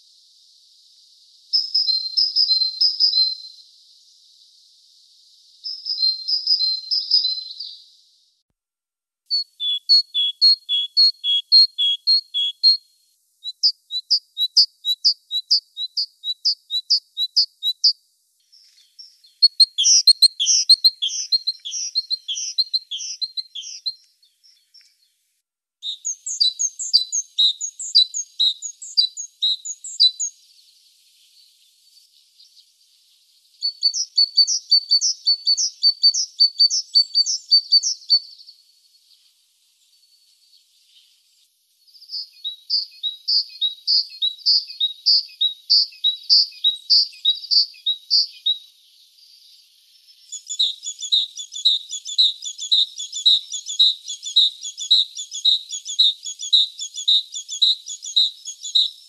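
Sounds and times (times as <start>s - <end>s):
bird singing high repeated notes: 1.2s - 4.7s, 5.4s - 7.9s, 9.3s - 18.0s, 18.7s - 24.8s, 25.8s - 32.6s, 33.5s - 38.6s, 41.9s - 59.0s.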